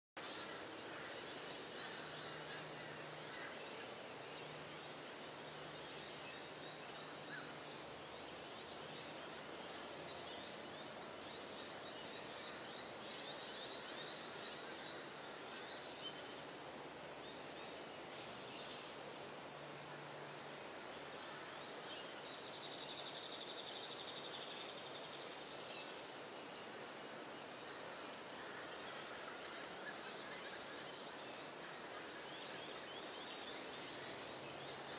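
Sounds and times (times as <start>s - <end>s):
insect chorus drone: 0.2s - 34.9s.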